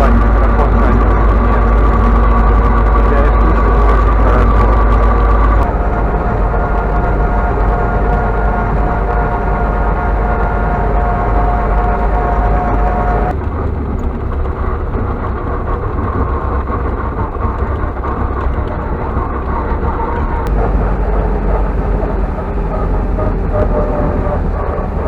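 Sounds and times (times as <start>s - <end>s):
diesel engine deep rumble: 0.0s - 25.0s
transmission whining: 0.0s - 25.0s.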